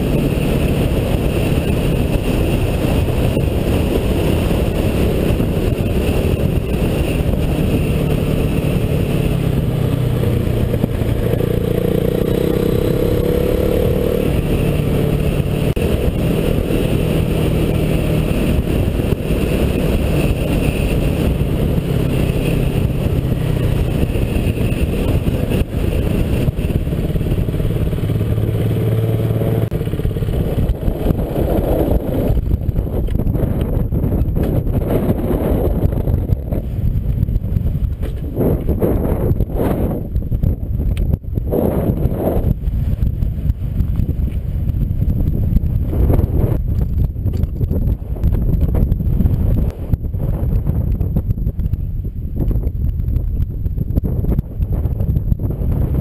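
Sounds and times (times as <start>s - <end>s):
motorcycle engine accelerating: 0.0s - 56.0s
wind rushing on microphone: 0.0s - 56.0s.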